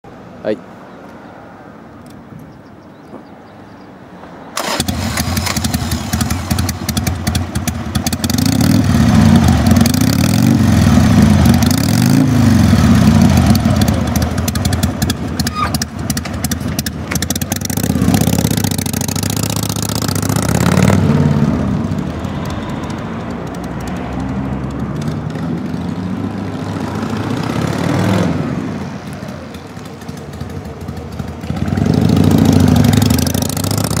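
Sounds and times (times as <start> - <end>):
motorcycle engine starting and revving: 4.6 - 34.0.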